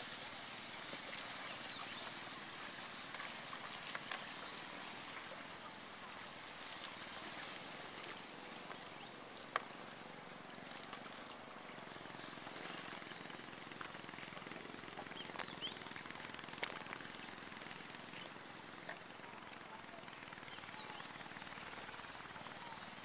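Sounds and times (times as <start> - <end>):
shallow river rushing: 0.0 - 20.4.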